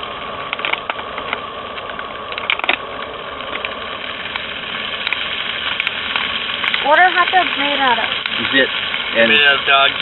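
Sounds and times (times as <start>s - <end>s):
camping stove hissing: 0.0s - 10.0s
crackles and clicks: 0.0s - 10.0s.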